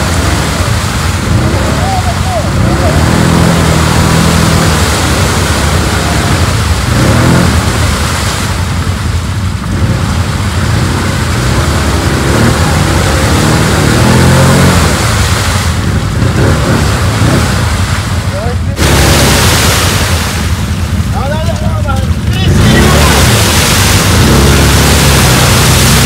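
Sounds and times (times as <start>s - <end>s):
quad bike engine revving: 0.0s - 26.0s
wheels churning through mud: 0.0s - 26.0s.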